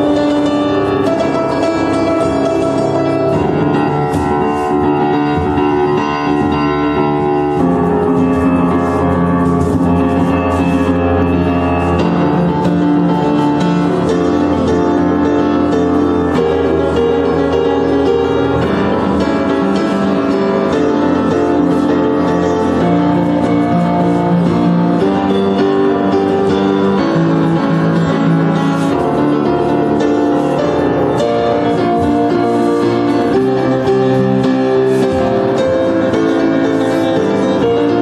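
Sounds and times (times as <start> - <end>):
upright piano playing chords: 0.0 - 38.0.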